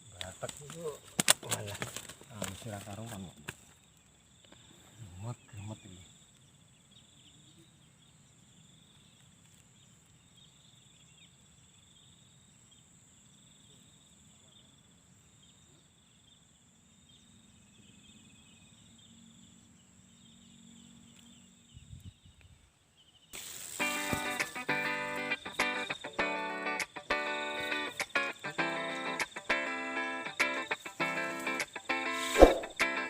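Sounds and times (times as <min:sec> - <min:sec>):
insects trilling: 0:00.0 - 0:33.0.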